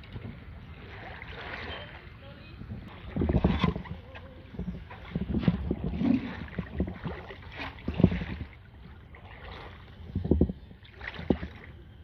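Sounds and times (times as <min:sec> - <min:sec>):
paddle splashing in water: 0:00.0 - 0:02.2, 0:02.9 - 0:11.8
water lapping: 0:00.0 - 0:12.0.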